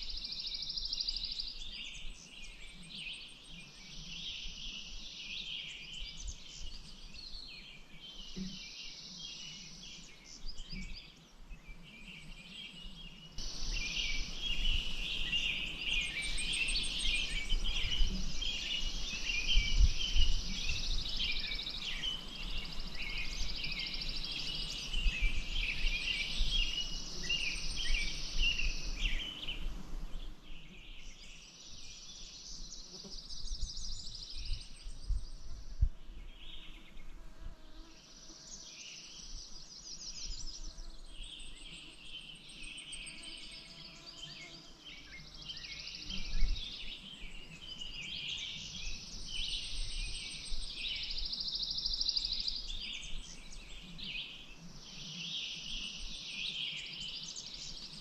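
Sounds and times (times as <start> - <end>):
birds chirping and singing: 0.0 - 37.1, 38.5 - 58.0
background hiss: 0.0 - 58.0.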